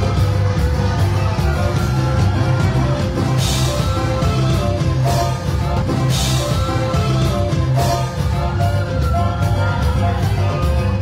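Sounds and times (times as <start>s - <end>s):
live dance band playing: 0.0s - 11.0s
saxophone: 0.0s - 11.0s.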